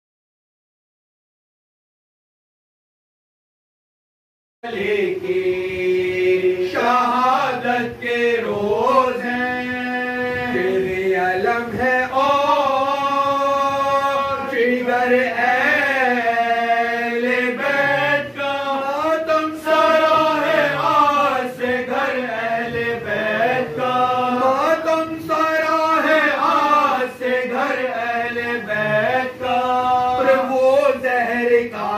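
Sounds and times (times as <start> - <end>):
men chanting an elegy: 4.7 - 31.9.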